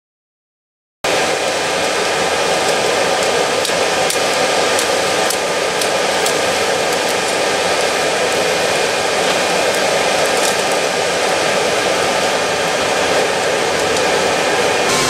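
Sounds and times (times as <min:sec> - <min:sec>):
forge blower rushing air and flame: 0:01.1 - 0:15.0
charcoal crackling: 0:01.3 - 0:14.3.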